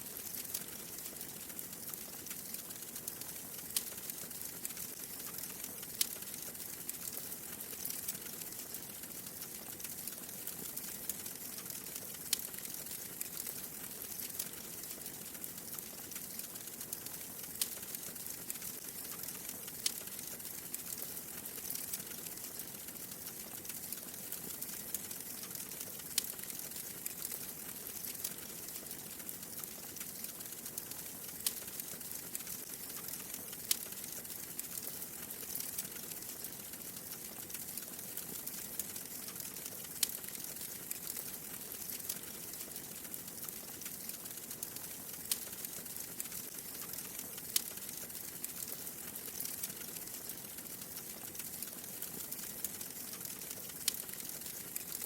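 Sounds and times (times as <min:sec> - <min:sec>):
wood fire crackling: 0:00.0 - 0:55.0
fire popping: 0:00.1 - 0:54.9.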